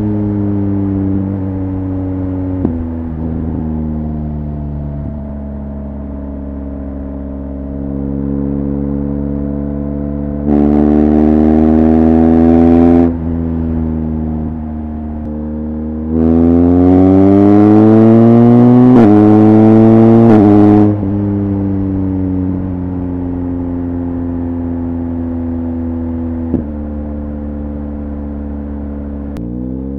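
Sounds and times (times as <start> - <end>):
motorcycle engine while riding: 0.0 - 29.9.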